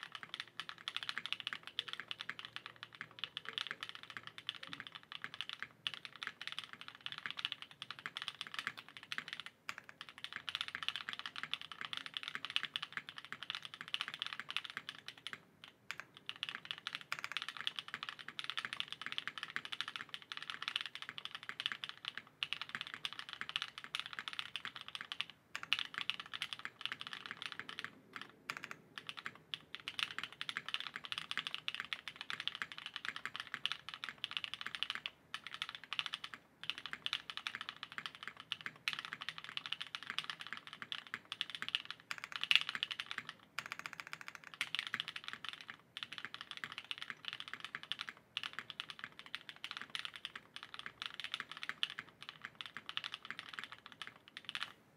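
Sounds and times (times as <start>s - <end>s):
mechanical keyboard typing: 0.0s - 54.8s.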